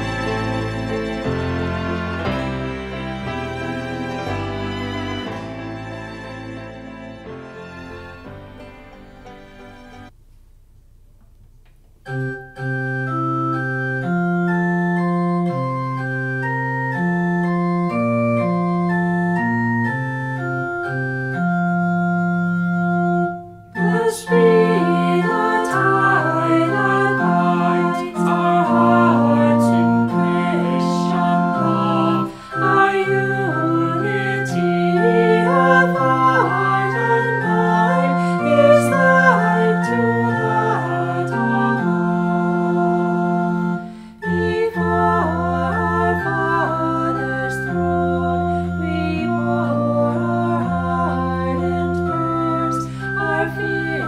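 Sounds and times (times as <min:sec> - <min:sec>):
organ playing sustained chords: 0:00.0 - 0:10.2, 0:12.0 - 0:54.0.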